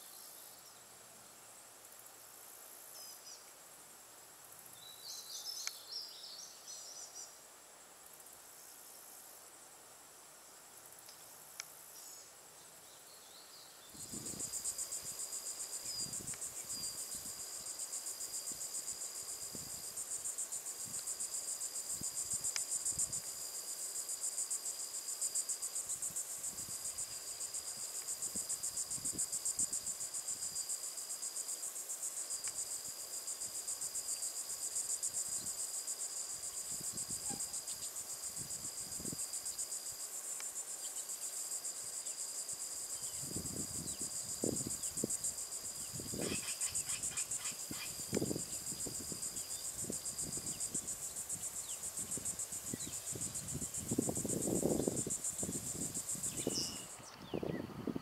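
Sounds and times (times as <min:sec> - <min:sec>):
steady high insect tone: 0:00.0 - 0:58.0
insect chorus trilling: 0:04.4 - 0:07.4, 0:08.0 - 0:58.0.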